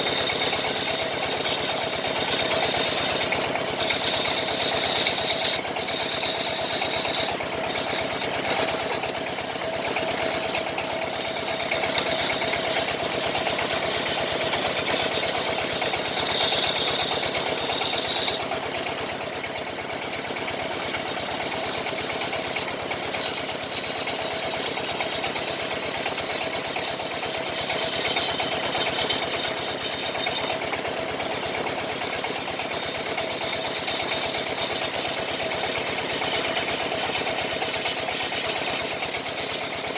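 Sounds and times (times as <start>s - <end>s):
machine rattling chatter: 0.0s - 39.9s.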